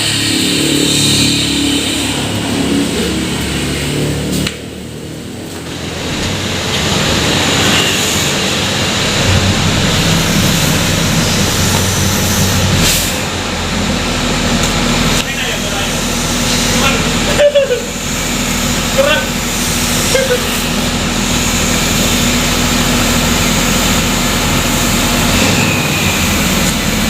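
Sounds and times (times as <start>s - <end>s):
bus engine running: 0.0s - 27.0s.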